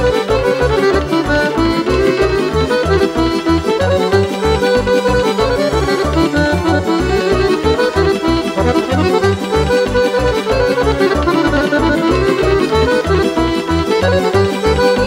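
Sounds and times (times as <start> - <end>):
accordion dance tune: 0.0 - 15.0.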